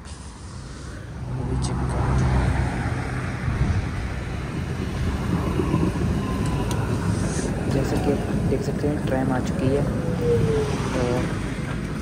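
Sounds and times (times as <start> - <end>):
tram rumble and hum: 0.0 - 12.0.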